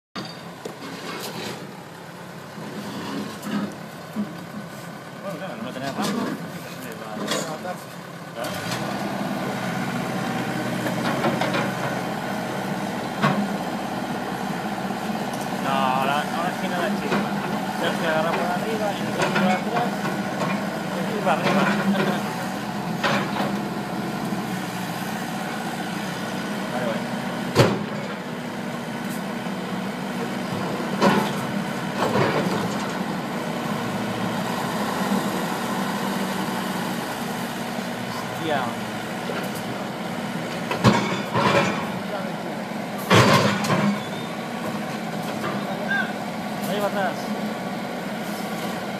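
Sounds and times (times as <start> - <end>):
excavator diesel engine running: 0.2 - 48.9.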